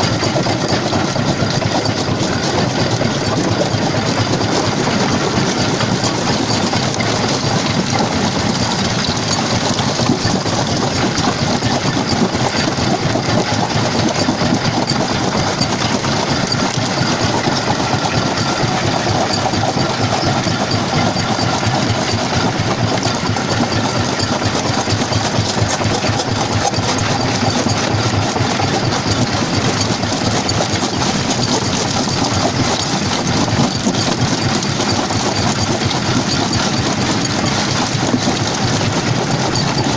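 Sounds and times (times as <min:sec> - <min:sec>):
stone crusher machine din: 0:00.0 - 0:39.9.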